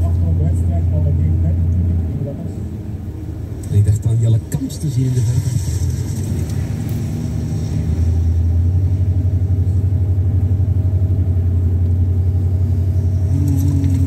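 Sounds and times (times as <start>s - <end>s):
car engine and tyres drone: 0.0s - 14.0s.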